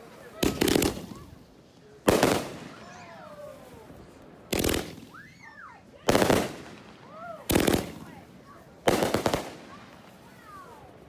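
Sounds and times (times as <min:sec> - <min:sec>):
fireworks crackling bursts: 0:00.0 - 0:11.0.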